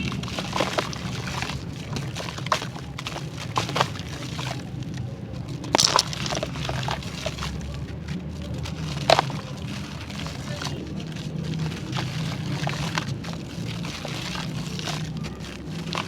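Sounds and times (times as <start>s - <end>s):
clay crumbling and cracking: 0.0s - 16.0s.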